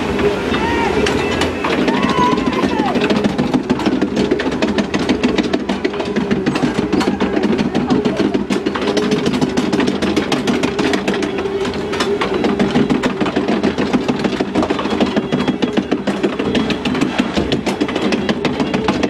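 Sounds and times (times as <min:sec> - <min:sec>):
constant mechanical hum: 0:00.0 - 0:19.0
lift conveyor clattering: 0:00.0 - 0:19.0.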